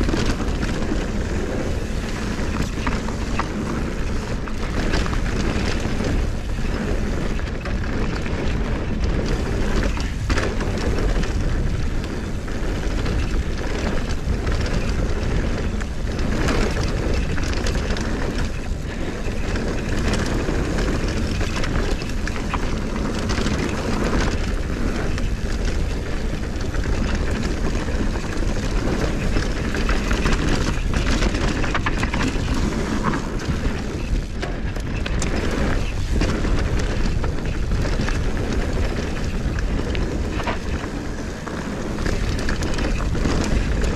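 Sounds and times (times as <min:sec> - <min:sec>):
bike rattling over bumps: 0:00.0 - 0:43.9
tyres rumbling on dirt: 0:00.0 - 0:43.9
wind buffeting microphone: 0:00.0 - 0:43.9.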